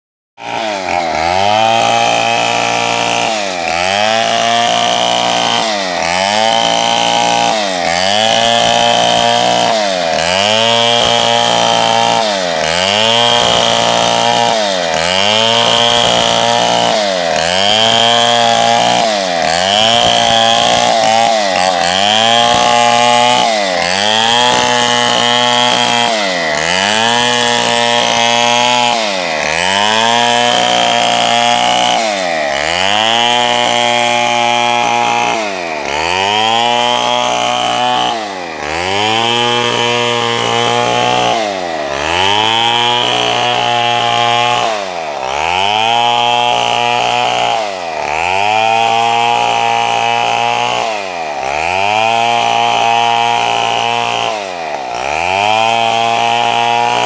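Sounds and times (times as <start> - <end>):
chainsaw cutting through log: 0.4 - 57.0.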